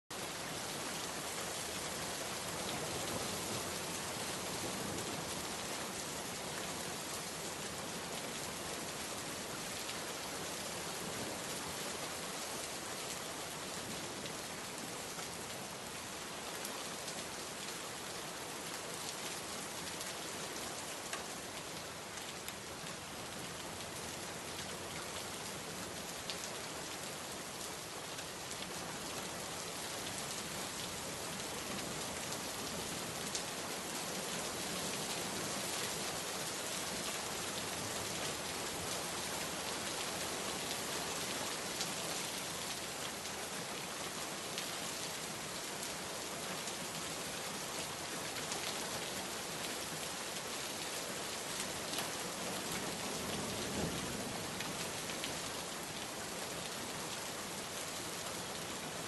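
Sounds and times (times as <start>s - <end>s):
steady rain: 0.1s - 59.0s.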